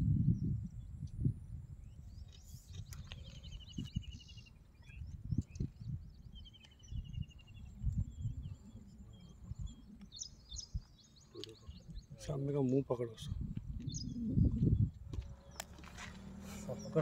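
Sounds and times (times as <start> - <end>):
wild birds chirping: 0.2 - 17.0.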